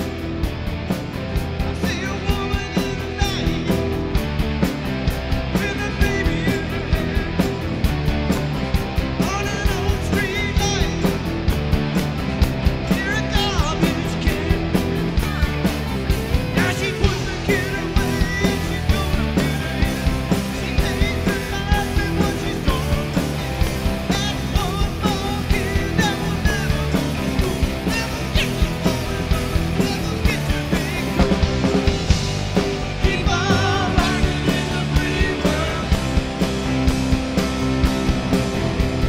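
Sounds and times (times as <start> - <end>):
bass guitar: 0.0 - 39.0
drum beat: 0.0 - 39.0
electric guitars: 0.0 - 39.0.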